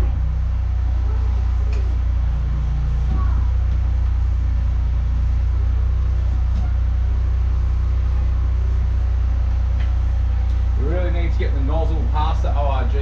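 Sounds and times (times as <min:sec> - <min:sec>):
drain jetter engine humming: 0:00.0 - 0:13.0.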